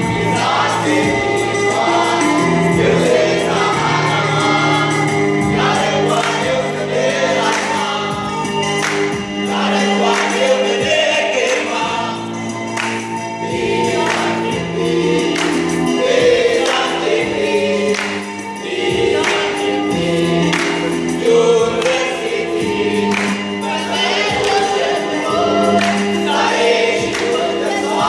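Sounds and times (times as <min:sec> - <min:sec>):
backing music with steady beat: 0:00.0 - 0:28.0
group of voices singing: 0:00.0 - 0:28.0.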